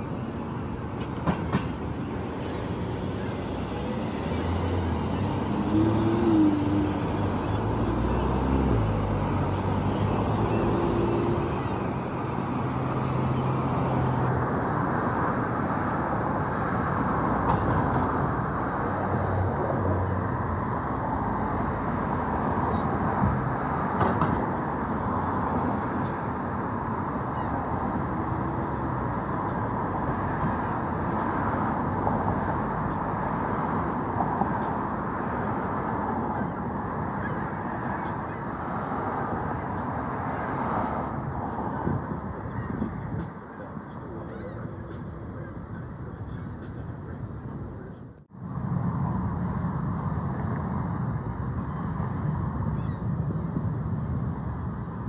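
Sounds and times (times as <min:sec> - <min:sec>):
city traffic rumble: 0:00.0 - 0:55.0.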